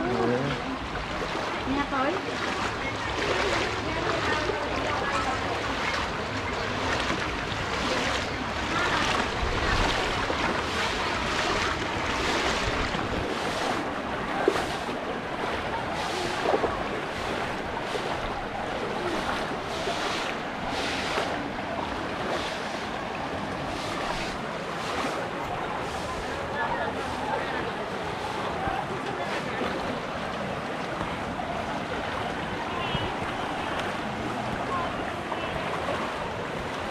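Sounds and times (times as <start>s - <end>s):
floodwater rushing over road: 0.0s - 36.9s.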